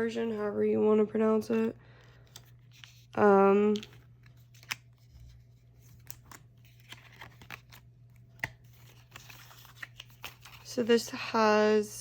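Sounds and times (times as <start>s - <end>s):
faint steady hum: 0.0s - 12.0s
rustling card and paper: 1.5s - 11.2s.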